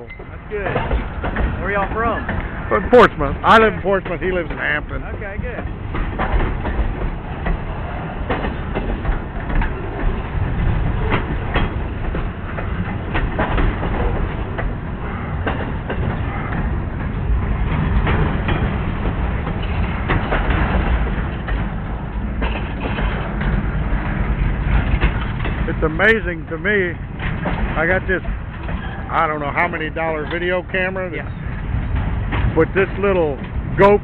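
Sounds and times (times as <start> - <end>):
train cars rumbling: 0.0 - 34.0
wheels clattering over rail joints: 0.0 - 34.0.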